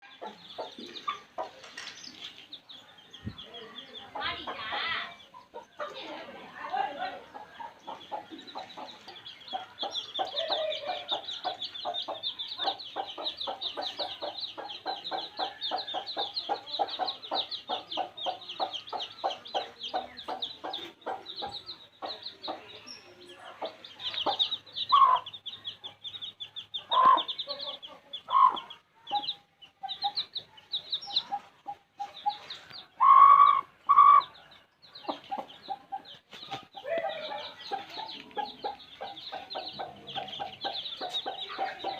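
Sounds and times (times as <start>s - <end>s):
hen clucking: 0.0s - 1.9s, 3.4s - 41.9s
baby chicks peeping: 0.0s - 41.9s.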